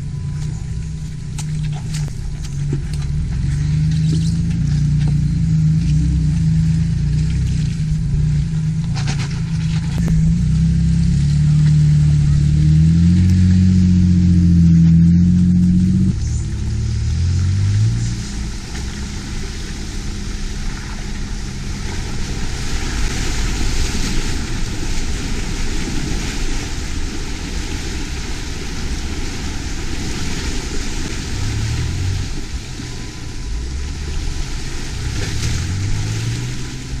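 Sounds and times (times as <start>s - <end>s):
tyres splashing through mud: 0.0s - 37.0s
vehicle engine running: 0.0s - 37.0s.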